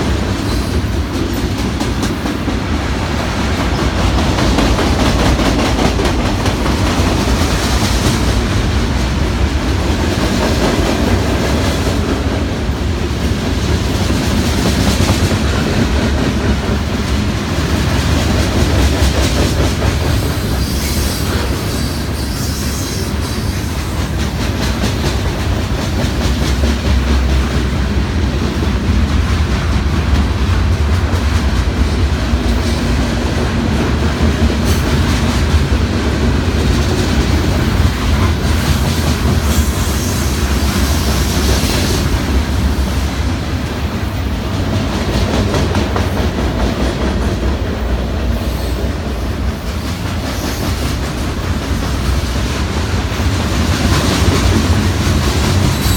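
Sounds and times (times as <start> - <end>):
wheels clacking over rail joints: 0.0 - 48.0
freight train rumbling: 0.0 - 55.9.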